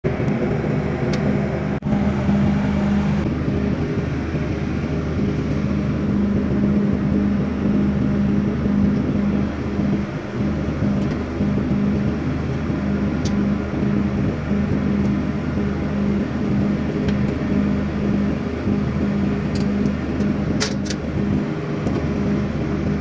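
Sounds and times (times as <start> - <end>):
diesel generator engine running: 0.0 - 23.0.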